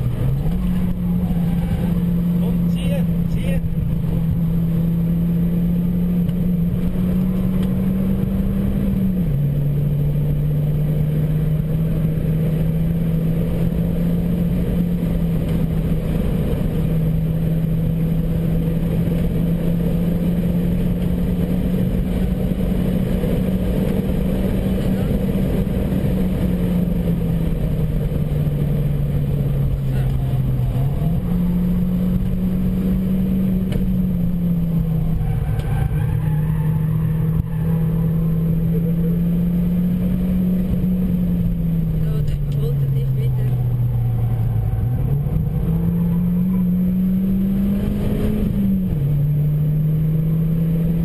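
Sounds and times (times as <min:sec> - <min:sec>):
car engine running hard: 0:00.0 - 0:51.0
wind and tyre noise: 0:00.0 - 0:51.0.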